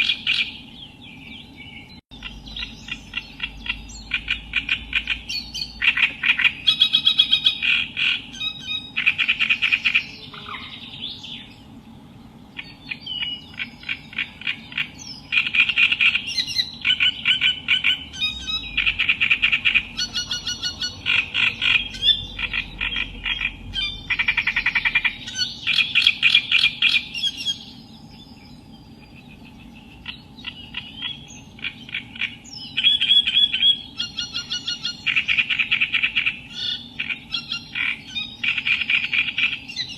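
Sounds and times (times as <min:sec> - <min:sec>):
reed warbler singing: 0:00.0 - 0:39.9
steady low hum: 0:00.0 - 0:39.9.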